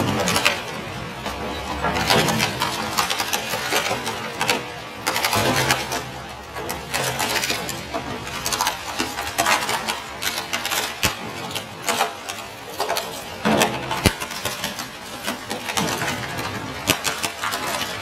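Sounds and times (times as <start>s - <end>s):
plastic cracking: 0.0s - 18.0s
shredder crunching plastic: 0.0s - 18.0s.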